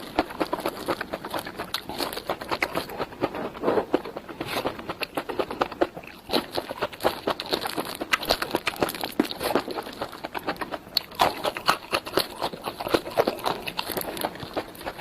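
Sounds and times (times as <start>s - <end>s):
wet chewing and mouth smacks: 0.0s - 15.0s.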